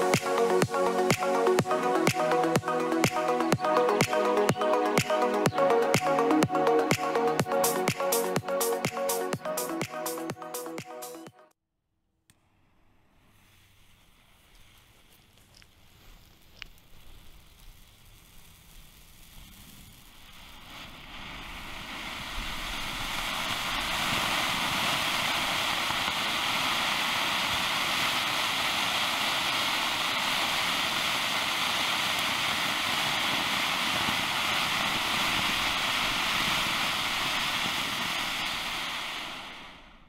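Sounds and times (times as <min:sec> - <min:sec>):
firework fountain hissing: 0:00.0 - 0:11.2, 0:13.0 - 0:40.0.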